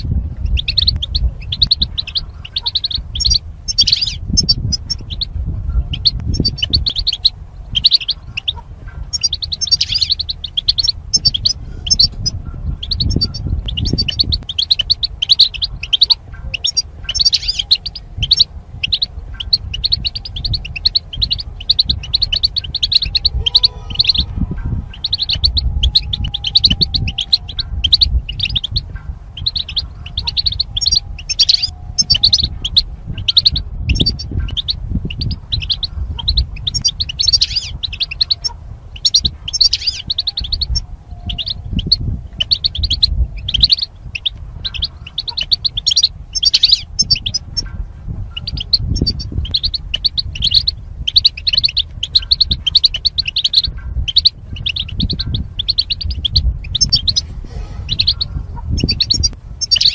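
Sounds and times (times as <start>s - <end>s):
bird twittering: 0.0s - 59.9s
low background rumble: 0.0s - 59.9s.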